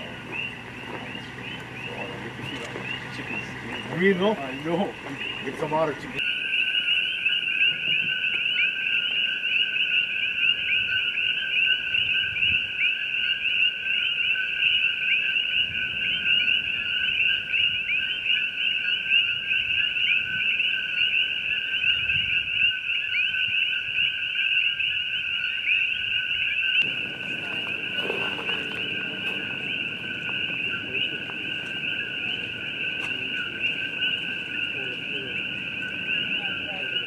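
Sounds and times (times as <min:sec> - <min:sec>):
chorus of frogs calling: 0:00.0 - 0:37.0.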